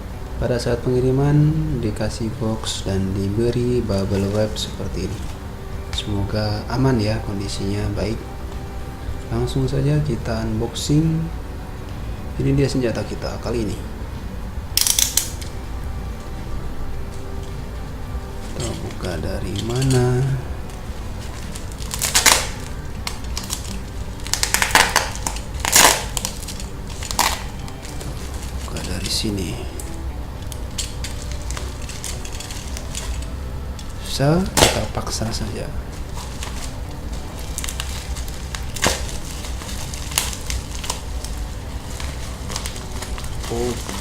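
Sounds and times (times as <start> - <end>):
plastic packaging crinkling: 2.6 - 9.6, 14.7 - 44.0.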